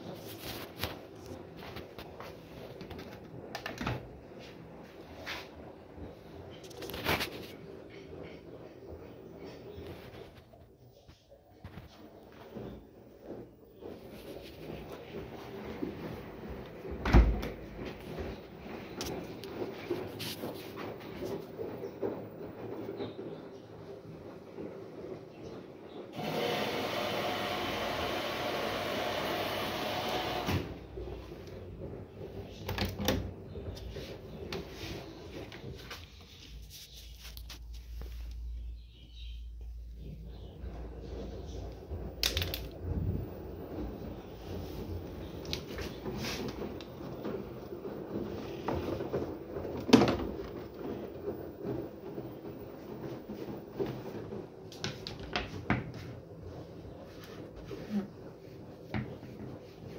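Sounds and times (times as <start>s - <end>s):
washing machine running: 0.0s - 59.9s.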